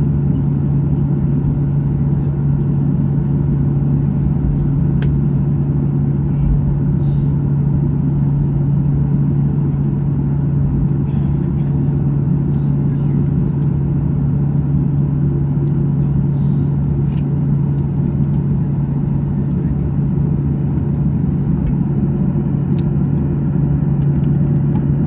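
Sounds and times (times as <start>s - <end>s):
airliner cabin hum and rumble: 0.0s - 25.0s.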